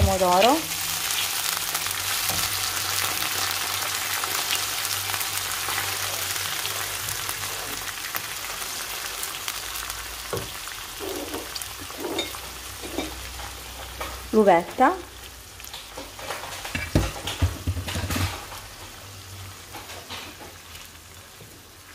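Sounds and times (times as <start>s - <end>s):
food sizzling in oil: 0.0s - 21.9s.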